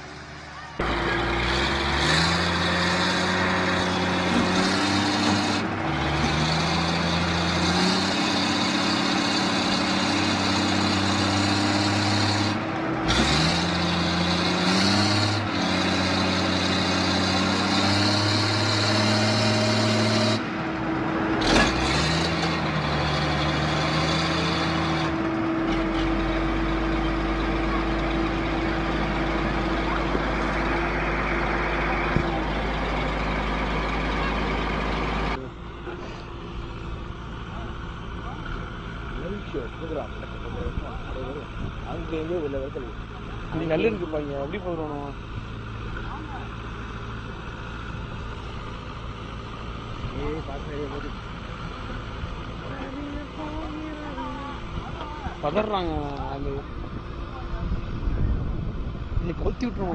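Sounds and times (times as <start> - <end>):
heavy diesel engines revving: 0.0 - 59.9.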